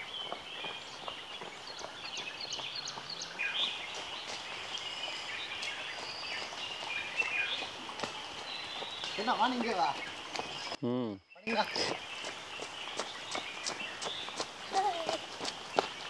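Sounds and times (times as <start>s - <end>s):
birds chirping and whistling: 0.0s - 10.8s, 11.4s - 16.0s.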